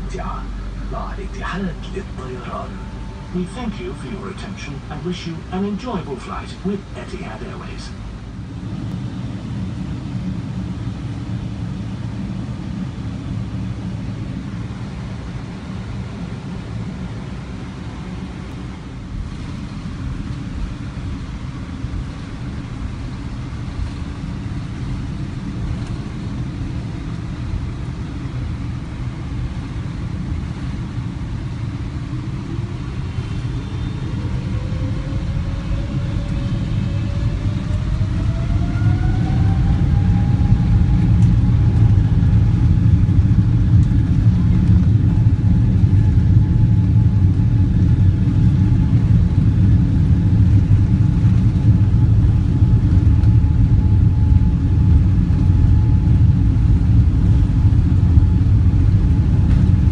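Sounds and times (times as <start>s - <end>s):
airplane taxiing rumble: 0.0s - 59.9s
jet engine whine rising: 0.0s - 59.9s.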